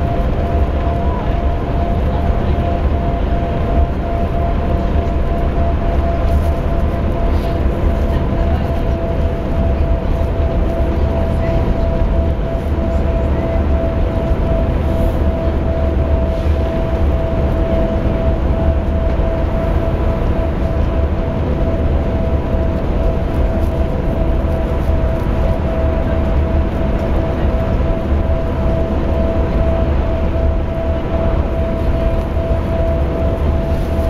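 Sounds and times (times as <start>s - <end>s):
bus engine and road rumble: 0.0s - 34.0s
constant whine: 0.0s - 34.0s.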